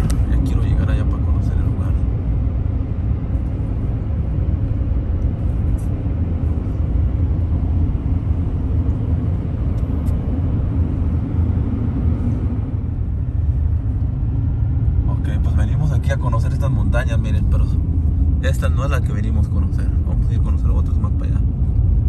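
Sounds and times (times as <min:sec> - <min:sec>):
engine and tyre rumble in cabin: 0:00.0 - 0:22.0.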